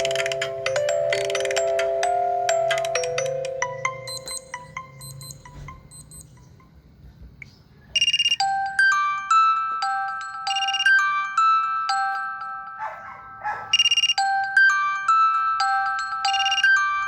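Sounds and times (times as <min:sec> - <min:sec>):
electronic alarm melody with chimes: 0:00.0 - 0:06.6, 0:08.0 - 0:17.0.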